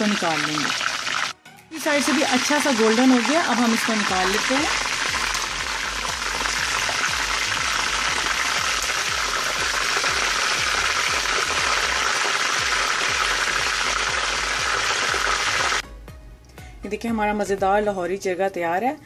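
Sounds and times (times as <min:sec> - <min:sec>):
hot oil sizzling and crackling: 0:00.0 - 0:15.8.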